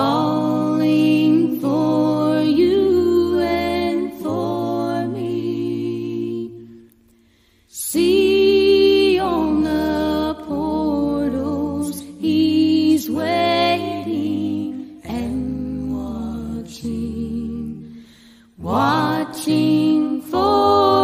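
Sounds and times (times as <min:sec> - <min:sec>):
voices singing a hymn in harmony: 0:00.0 - 0:21.0.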